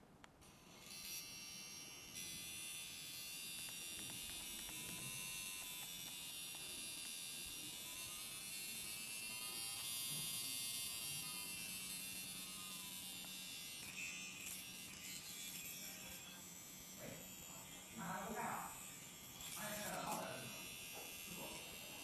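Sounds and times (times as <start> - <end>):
tattoo pen motor buzzing whine: 0.0 - 22.0.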